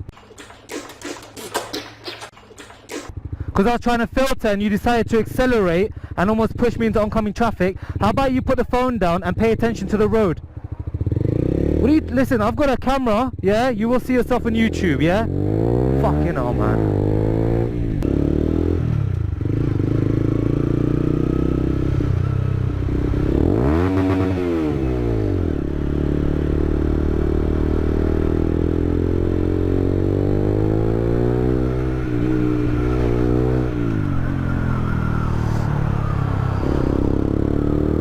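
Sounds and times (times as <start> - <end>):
motorcycle engine revving: 0.0 - 3.8, 9.3 - 12.5, 13.2 - 38.0.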